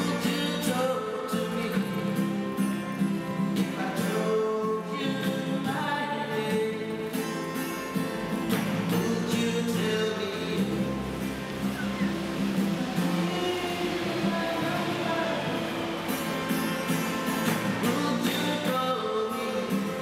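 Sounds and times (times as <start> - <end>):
person singing: 0.0 - 2.2, 3.6 - 7.1, 8.8 - 11.9, 12.6 - 20.0
strummed acoustic guitar: 0.0 - 20.0.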